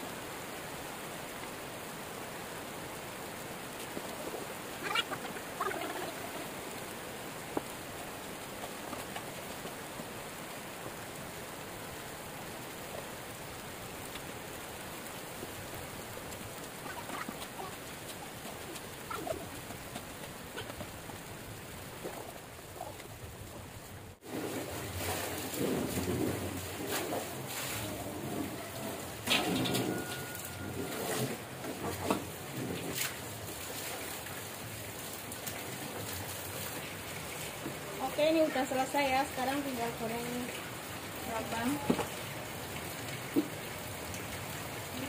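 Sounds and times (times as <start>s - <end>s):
heavy rain hissing: 0.0s - 45.0s.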